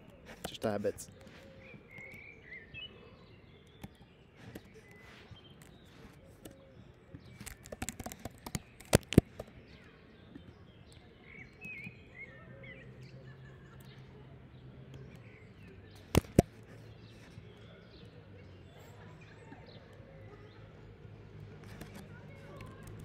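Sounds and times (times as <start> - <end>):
faint bird chirps: 1.1 - 21.0.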